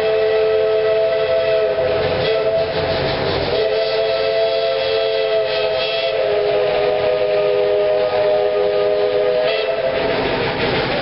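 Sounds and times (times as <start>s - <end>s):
steam locomotive whistle: 0.0s - 10.2s
rushing noise: 1.0s - 11.0s.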